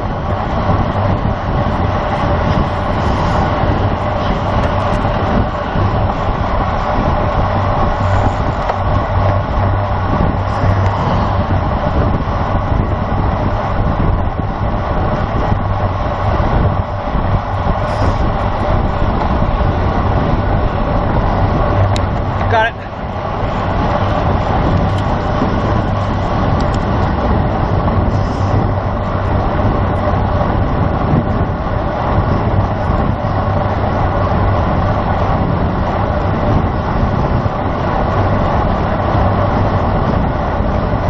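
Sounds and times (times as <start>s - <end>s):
road noise: 0.0s - 41.0s
wind rushing: 0.0s - 41.0s.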